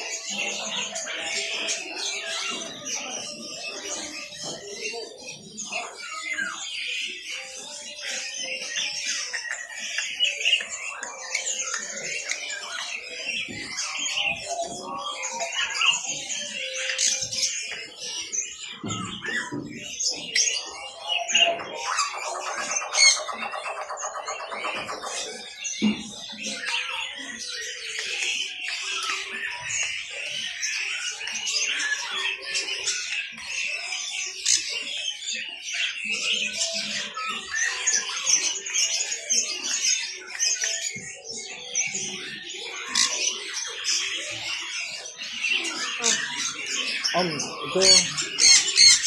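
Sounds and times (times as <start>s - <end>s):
birds chirping and squawking: 0.0s - 49.0s
faint voices: 0.0s - 49.0s.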